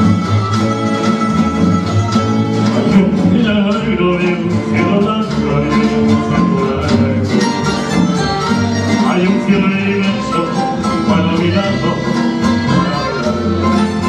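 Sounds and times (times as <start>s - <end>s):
double bass: 0.0s - 14.0s
guitars plucked and strummed: 0.0s - 14.0s.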